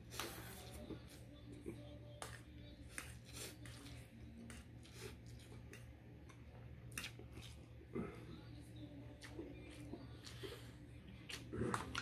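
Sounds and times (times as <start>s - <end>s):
low steady hum: 0.0s - 12.0s
chewing smacks: 1.6s - 8.4s, 9.0s - 12.0s.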